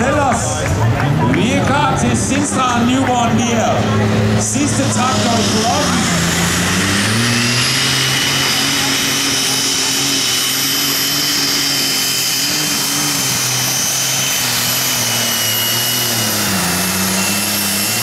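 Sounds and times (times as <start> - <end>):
tractor engine running under load: 0.0 - 18.0
high steady whine: 1.3 - 18.0.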